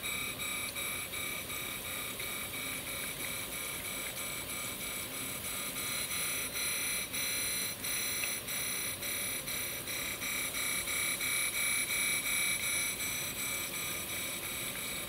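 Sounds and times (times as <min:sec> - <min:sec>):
cylindrical grinder whine: 0:00.0 - 0:15.0.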